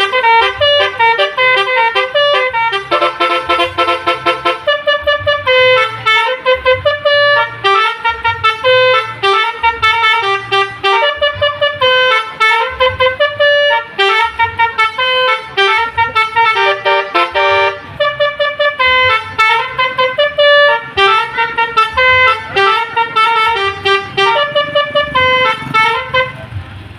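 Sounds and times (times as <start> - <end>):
multi-tone bus horn melody: 0.0 - 26.9.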